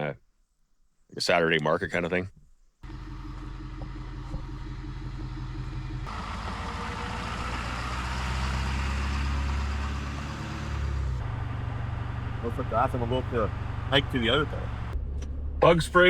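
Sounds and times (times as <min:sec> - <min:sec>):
road noise: 0:02.8 - 0:16.0
vehicle engine running: 0:02.8 - 0:16.0.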